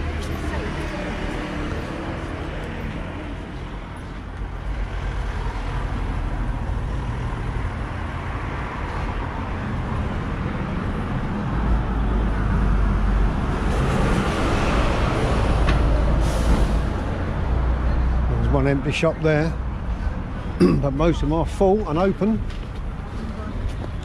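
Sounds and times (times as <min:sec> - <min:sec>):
vehicles passing: 0:00.0 - 0:24.0.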